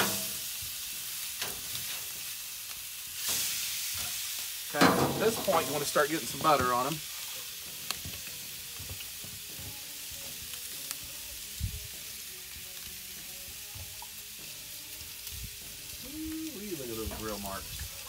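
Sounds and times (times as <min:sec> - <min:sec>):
steaks sizzling on grill: 0:00.0 - 0:18.0.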